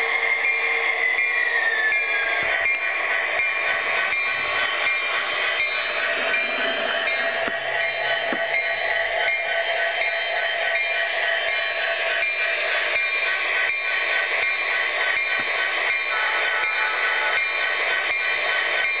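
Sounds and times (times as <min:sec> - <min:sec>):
locomotive bell ringing: 0:00.0 - 0:19.0
model train running on track: 0:00.0 - 0:19.0.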